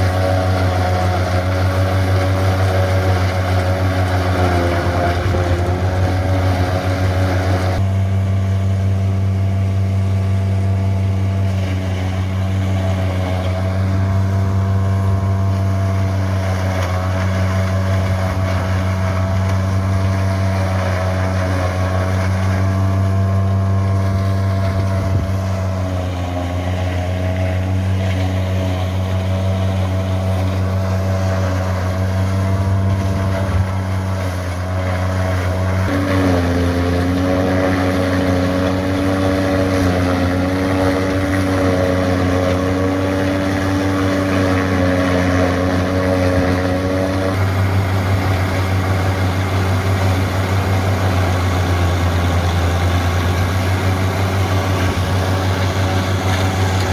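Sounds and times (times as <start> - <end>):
forage chopper grinding stalks: 0.0 - 56.9
tractor diesel engine under load: 0.0 - 56.9.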